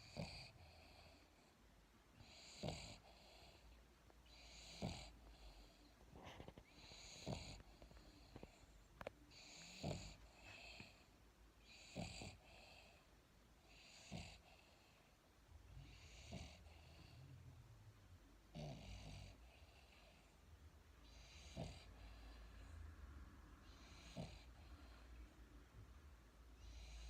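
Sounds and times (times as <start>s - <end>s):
dog snoring: 0.0s - 1.5s, 2.2s - 15.0s, 15.8s - 17.4s, 18.5s - 20.4s, 21.0s - 22.9s, 23.6s - 25.3s, 26.6s - 27.0s.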